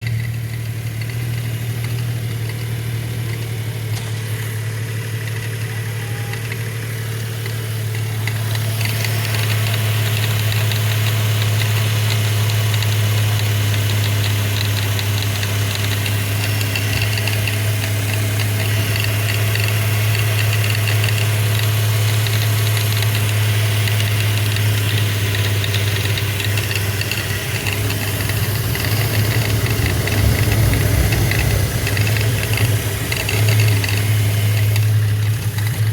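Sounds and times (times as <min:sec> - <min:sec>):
car engine humming: 0:00.0 - 0:35.9
fast fine engine ticking: 0:00.0 - 0:35.9.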